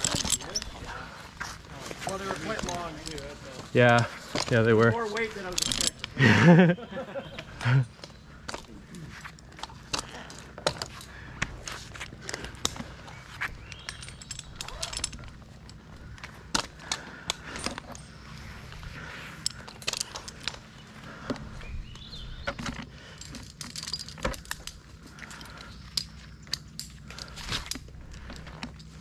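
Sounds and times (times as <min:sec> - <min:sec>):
metal carabiners clinking: 0:00.0 - 0:29.0.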